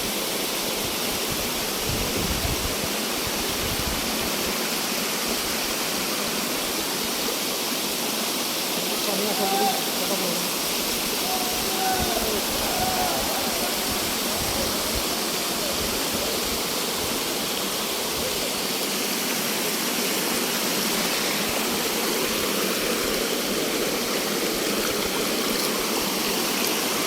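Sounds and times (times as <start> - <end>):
stream water rushing over rocks: 0.0 - 27.0.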